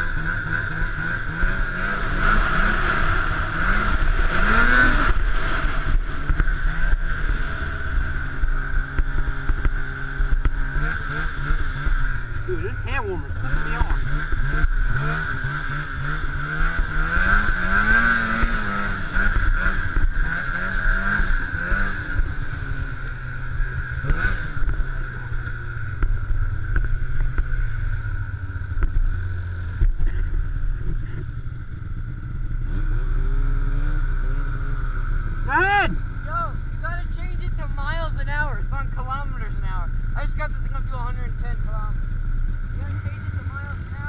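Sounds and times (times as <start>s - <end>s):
snowmobile engine running: 0.0s - 44.0s.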